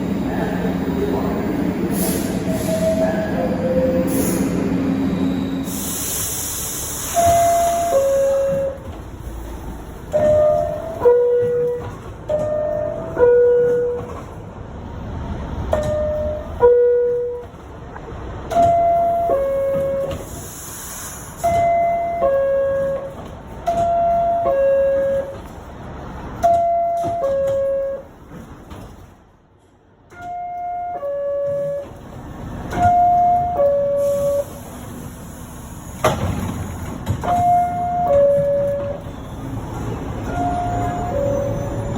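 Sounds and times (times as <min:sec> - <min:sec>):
train noise: 0:00.0 - 0:41.9.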